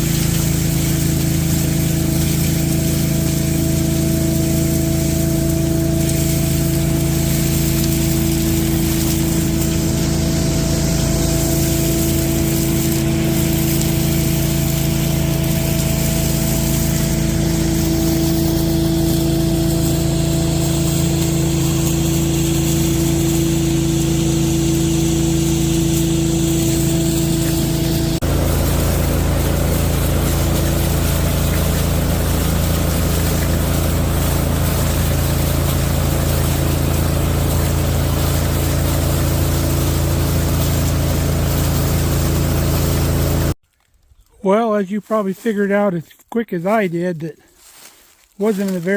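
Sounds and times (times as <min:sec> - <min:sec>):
industrial vacuum whining: 0:00.0 - 0:43.6
rough noisy machine running: 0:00.0 - 0:43.6.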